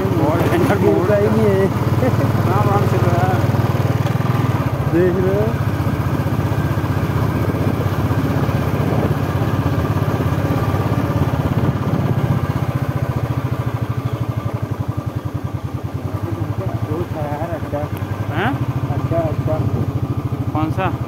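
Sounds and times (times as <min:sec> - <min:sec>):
road noise: 0:00.0 - 0:21.0
vehicle engine droning: 0:00.0 - 0:21.0.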